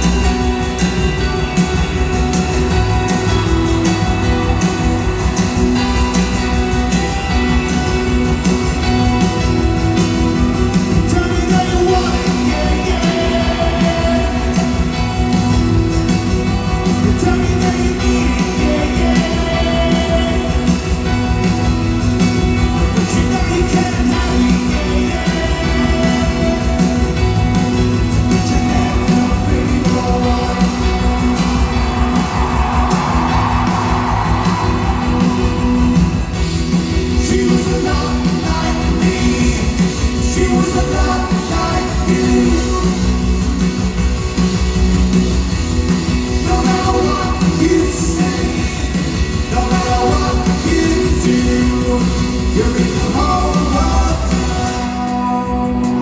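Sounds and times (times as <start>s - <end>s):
person singing: 0.0s - 15.5s, 16.5s - 21.4s, 22.8s - 27.3s, 28.2s - 36.4s, 37.0s - 43.6s, 46.3s - 56.0s
crowd noise: 0.0s - 56.0s
drums: 0.0s - 56.0s
electric guitars: 0.0s - 56.0s
live rock band playing: 0.0s - 56.0s.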